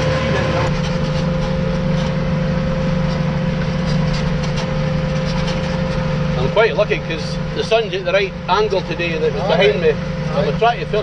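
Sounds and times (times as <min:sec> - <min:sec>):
thin steady whine: 0:00.0 - 0:11.0
tractor engine humming: 0:00.0 - 0:11.0
light rattles: 0:00.6 - 0:11.0.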